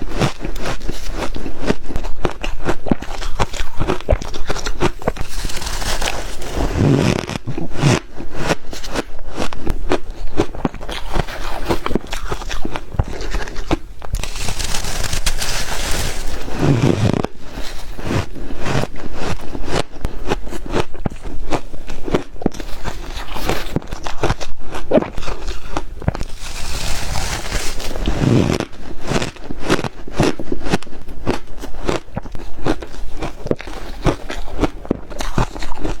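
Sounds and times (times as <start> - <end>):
ice being chewed: 0.0 - 36.0.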